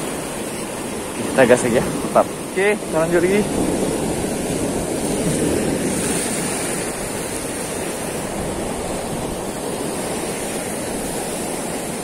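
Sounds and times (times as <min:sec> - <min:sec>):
surf washing over rocks: 0:00.0 - 0:12.0.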